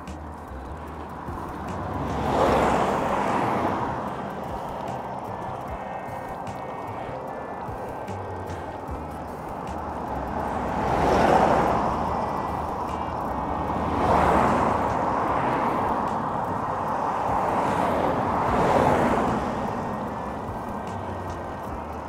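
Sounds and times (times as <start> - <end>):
steady road noise: 0.0 - 22.0
vehicles passing: 0.0 - 22.0.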